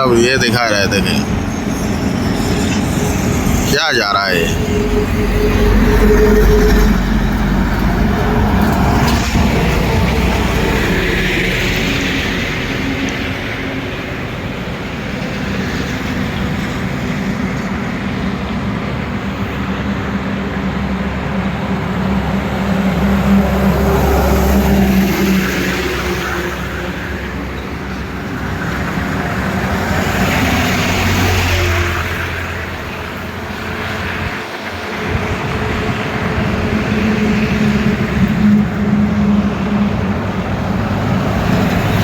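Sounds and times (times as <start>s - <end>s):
highway traffic passing: 0.0s - 42.0s.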